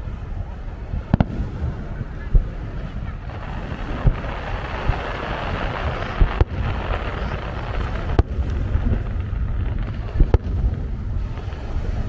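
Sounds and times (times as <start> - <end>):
fireworks booming: 0.0 - 12.0
wind rumbling on microphone: 0.0 - 12.0.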